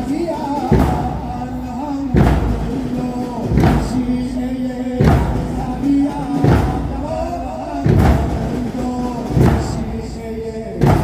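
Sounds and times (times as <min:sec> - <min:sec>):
heavy drum beat: 0:00.0 - 0:11.0
lamenting voice singing: 0:00.0 - 0:11.0.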